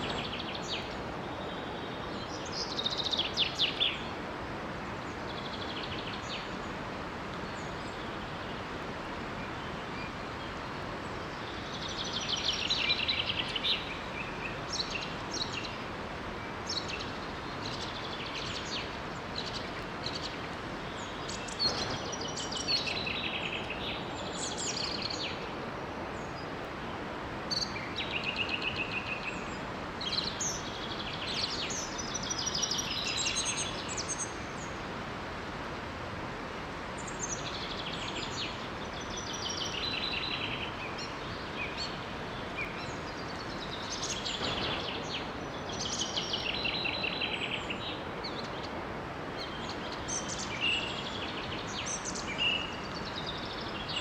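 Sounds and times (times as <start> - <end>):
small waterfall rushing: 0.0 - 54.0
songbirds chirping and trilling: 0.0 - 54.0.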